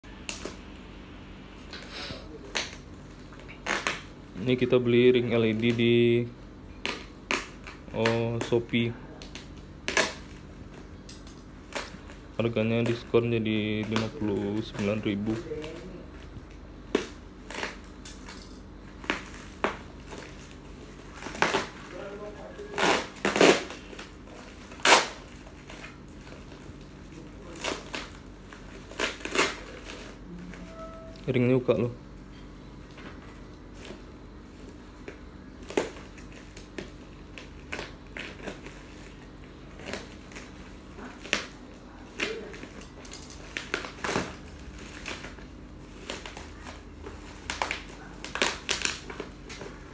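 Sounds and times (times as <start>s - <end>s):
plastic wrapping crackling and ripping: 2.4s - 4.6s, 6.9s - 31.1s, 32.8s - 49.9s.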